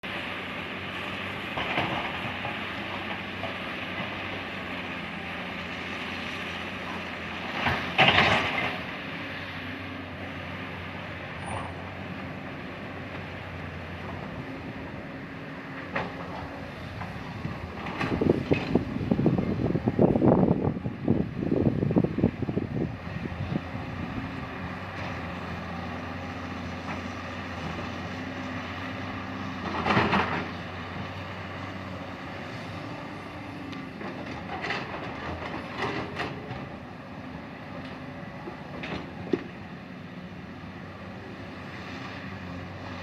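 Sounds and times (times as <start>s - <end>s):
heavy machinery engine running: 0.0s - 43.0s
rough rumbling and thumping: 0.9s - 9.0s, 11.4s - 39.7s.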